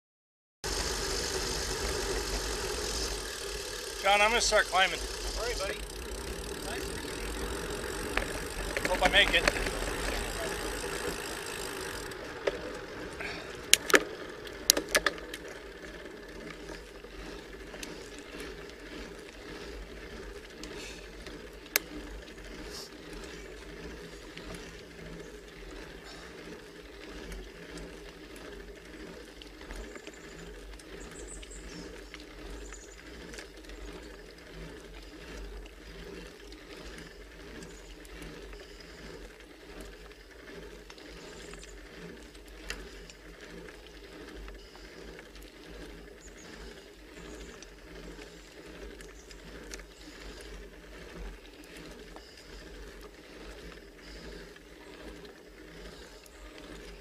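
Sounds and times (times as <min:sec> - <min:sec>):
sharp drivetrain clicks: 0:00.6 - 0:57.0
bicycle chain over sprockets: 0:00.7 - 0:57.0.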